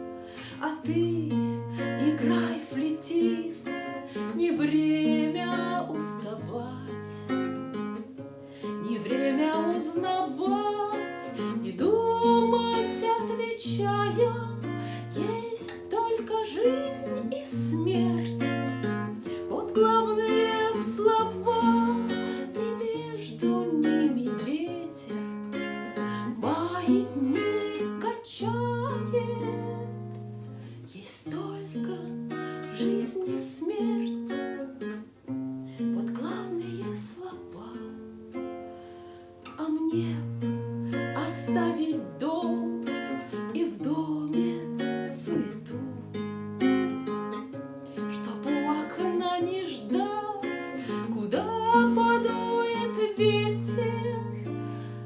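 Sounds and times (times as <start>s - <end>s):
plucked guitar melody: 0.0s - 55.0s.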